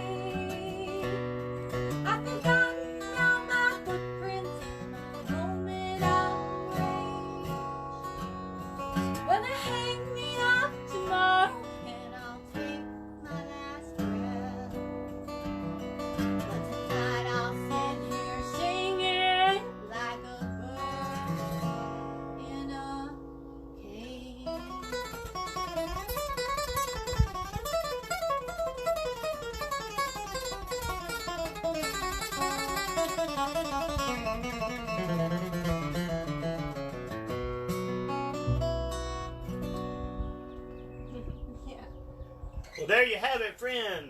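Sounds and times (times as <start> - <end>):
fast single-note guitar picking: 0.0 - 43.0
acoustic guitar chords: 0.0 - 44.0.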